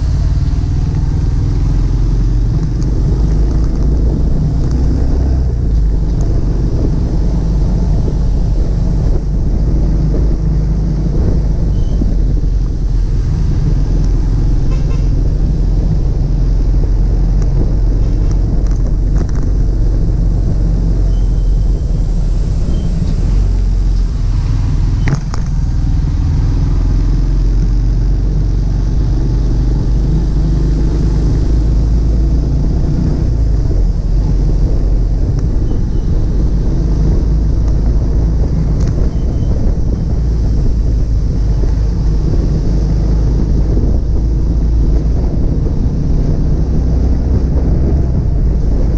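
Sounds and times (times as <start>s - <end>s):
car driving on road rumble: 0.0s - 48.9s.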